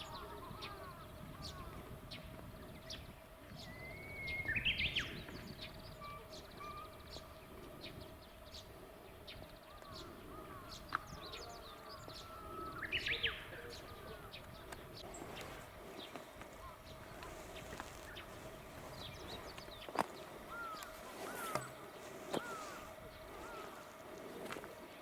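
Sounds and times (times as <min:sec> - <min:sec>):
low background murmur: 0:00.0 - 0:25.0
small birds chirping and singing: 0:00.0 - 0:25.0.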